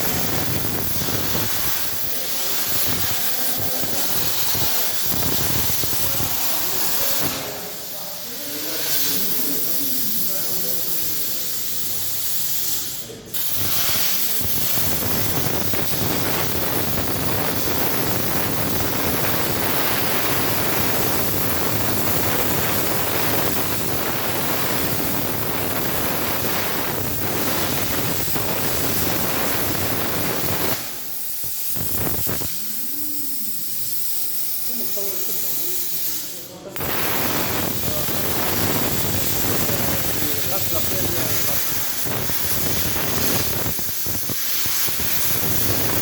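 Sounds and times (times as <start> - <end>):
plasma torch cutting steel: 0.0 - 46.0
soft hiss of air: 0.0 - 46.0.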